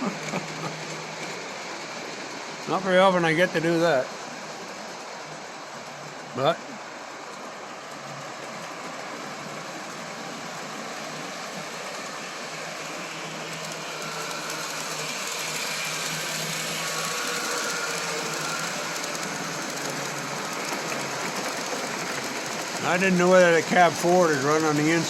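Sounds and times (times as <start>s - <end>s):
model train motors whirring: 0.0s - 25.0s
wheels rattling on rails: 0.0s - 25.0s.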